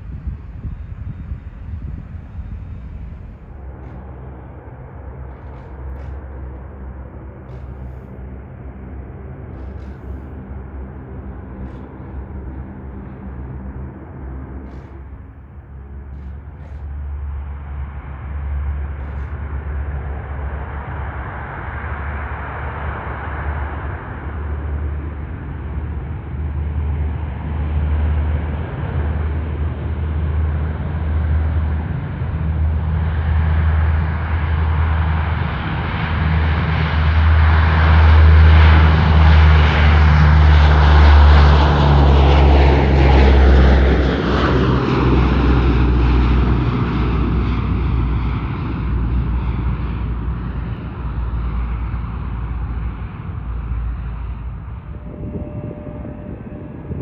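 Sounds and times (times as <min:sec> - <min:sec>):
airplane engine passing by: 0:00.0 - 0:57.0.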